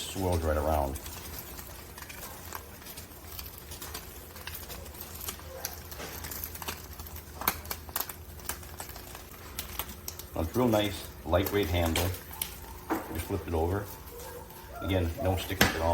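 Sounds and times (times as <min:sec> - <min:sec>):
crackling pops: 0:00.0 - 0:15.9
eggs sizzling in a pan: 0:00.0 - 0:15.9.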